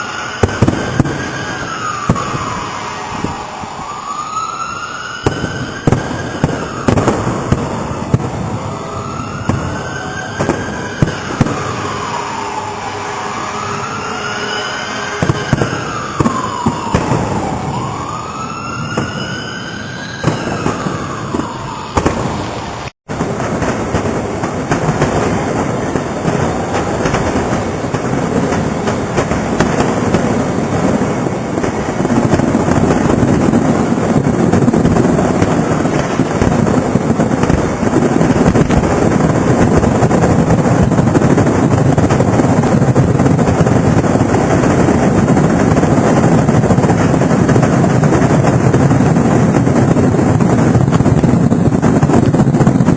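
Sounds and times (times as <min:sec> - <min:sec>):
fireworks bangs and crackle: 0:00.0 - 0:52.9
siren wailing: 0:00.0 - 0:52.9.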